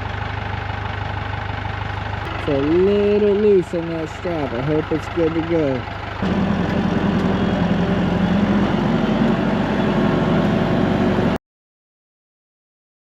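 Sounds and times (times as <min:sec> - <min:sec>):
tractor engine running: 0:00.0 - 0:11.4.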